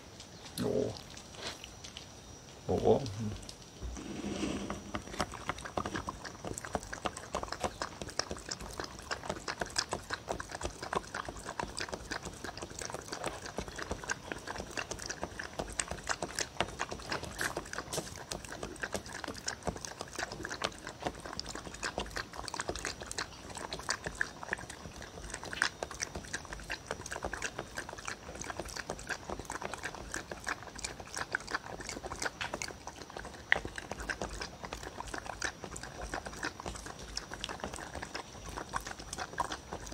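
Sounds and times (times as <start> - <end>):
dog lapping from bowl: 4.5 - 39.9.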